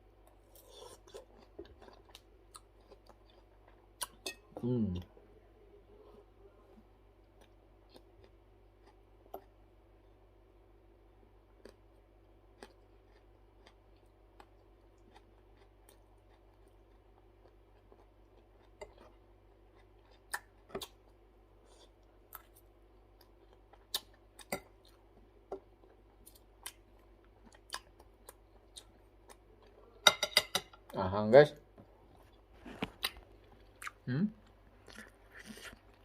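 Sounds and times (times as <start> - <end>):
person chewing: 0.2 - 5.0, 7.2 - 9.6, 11.5 - 30.3, 32.0 - 36.0.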